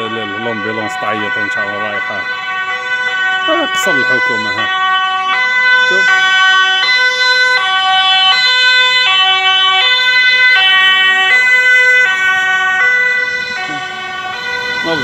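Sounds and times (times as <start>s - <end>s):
two-tone ambulance siren: 0.0s - 15.0s.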